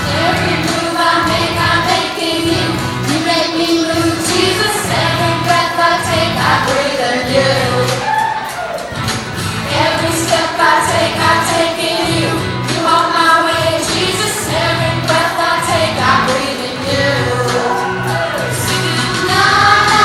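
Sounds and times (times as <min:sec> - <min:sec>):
group singing upbeat song: 0:00.0 - 0:20.0
instrumental accompaniment with beat: 0:00.0 - 0:20.0.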